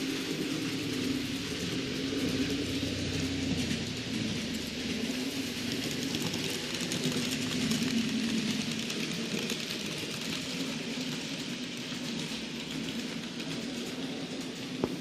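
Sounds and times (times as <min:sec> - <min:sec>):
model train motor hum: 0:00.0 - 0:15.0
wheels clicking on rails: 0:00.0 - 0:15.0.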